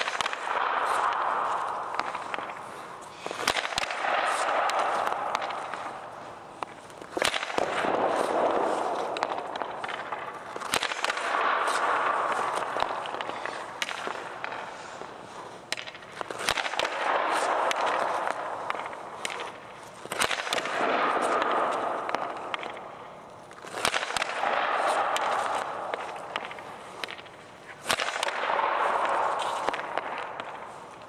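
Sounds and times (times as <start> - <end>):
hockey stick striking puck: 0.0 - 31.0
puck hitting goalie pads: 0.0 - 31.0
skate blades scraping ice: 0.0 - 31.0.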